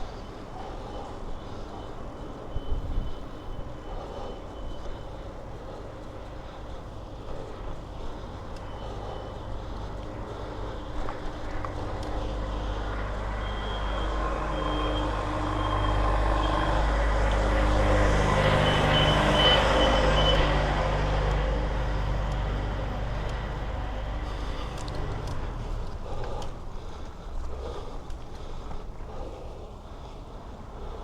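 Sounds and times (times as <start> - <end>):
heavy vehicle passing: 0.0 - 31.0.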